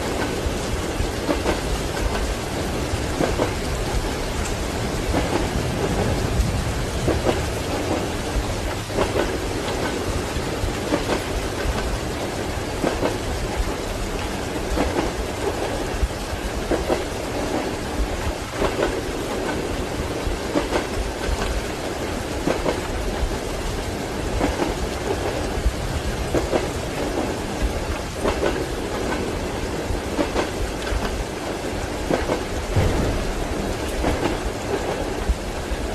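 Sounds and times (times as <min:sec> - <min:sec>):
train wheels clacking over rail joints: 0:00.0 - 0:23.4, 0:26.2 - 0:35.6
railway carriage rumble: 0:00.0 - 0:35.9
rain falling: 0:00.0 - 0:35.9.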